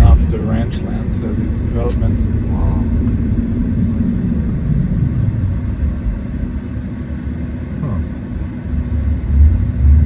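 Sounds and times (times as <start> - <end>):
faint steady hum: 0.0 - 10.0
road and tyre rumble: 0.0 - 10.0.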